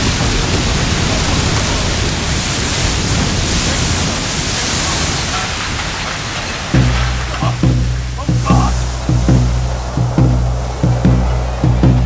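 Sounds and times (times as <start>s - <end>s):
oil gusher rushing spray: 0.0s - 12.0s.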